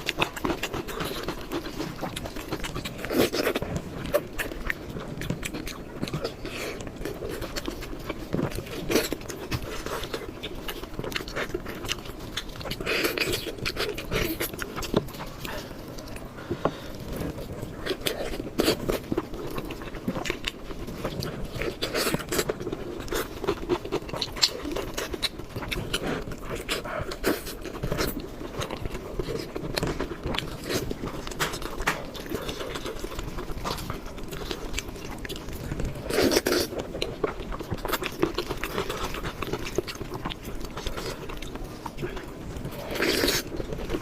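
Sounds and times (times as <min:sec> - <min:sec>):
person biting and chewing: 0:00.0 - 0:44.0.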